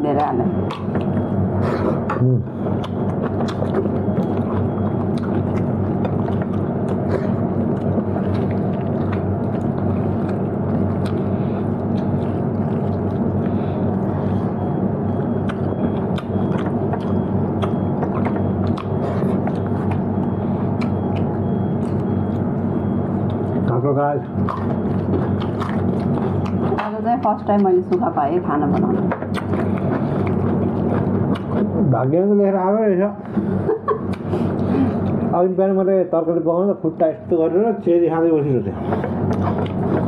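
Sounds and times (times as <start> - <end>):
loud low hum: 0.0 - 40.0
person chewing: 0.6 - 28.0, 28.7 - 31.9, 33.2 - 35.3, 38.8 - 40.0.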